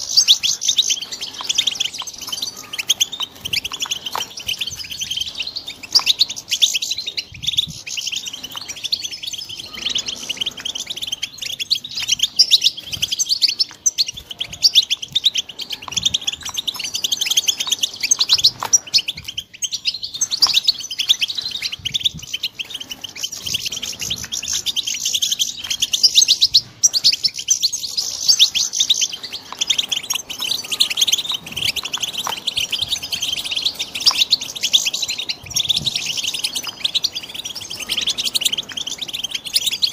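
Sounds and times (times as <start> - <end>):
goldfinches chirping and twittering: 0.0 - 39.9.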